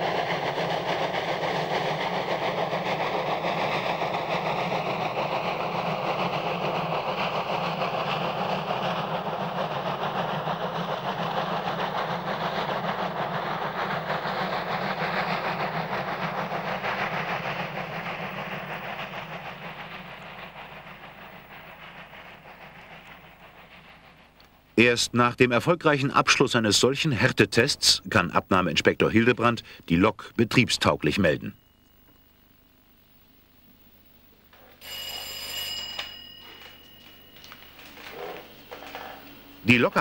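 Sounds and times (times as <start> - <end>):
steam locomotive exhaust chuffing: 0.0 - 31.6, 34.8 - 40.0
train rolling: 0.0 - 32.1, 33.6 - 40.0.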